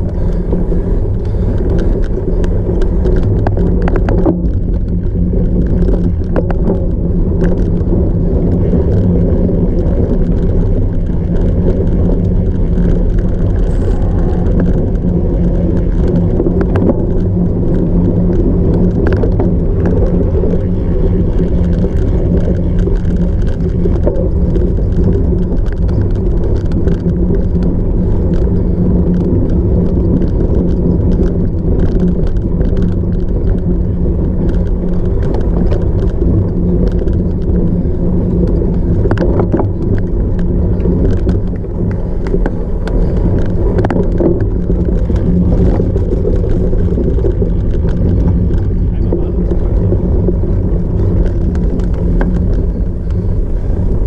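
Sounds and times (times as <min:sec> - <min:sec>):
bike rattles and clicks: 0:00.0 - 0:54.0
wind and tyre rumble: 0:00.0 - 0:54.0.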